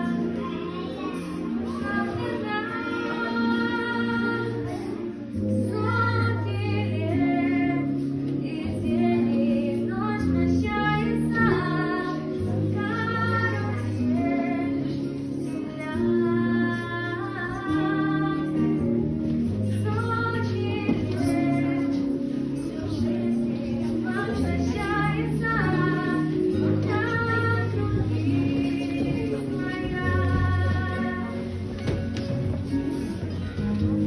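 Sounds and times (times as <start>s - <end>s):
young female voice singing: 0.0s - 31.6s
instrumental accompaniment with bass: 0.0s - 34.0s.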